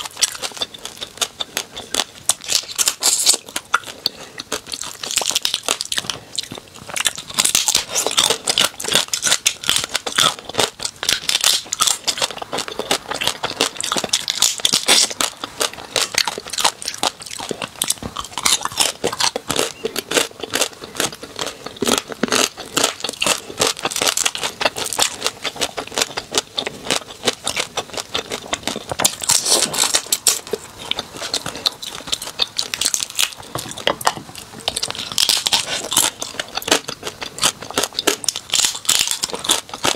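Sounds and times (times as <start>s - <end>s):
crab shells cracking: 0.0s - 39.9s.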